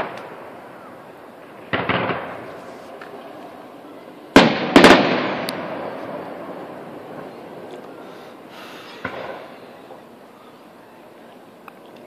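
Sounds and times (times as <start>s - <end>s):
fireworks bursting with echo: 0.0s - 10.1s.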